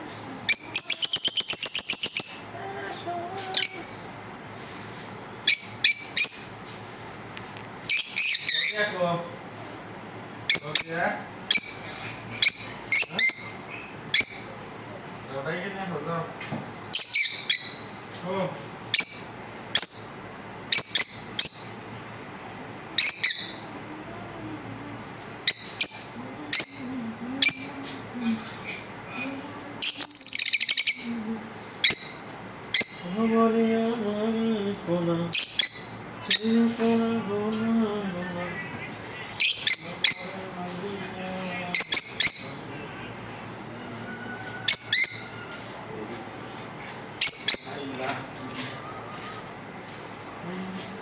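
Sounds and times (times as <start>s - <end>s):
lovebirds chirping: 0.3s - 4.2s, 5.3s - 6.9s, 7.8s - 9.1s, 10.4s - 14.9s, 16.4s - 18.1s, 18.9s - 22.0s, 22.9s - 24.1s, 25.2s - 34.6s, 35.2s - 45.7s, 46.8s - 51.0s.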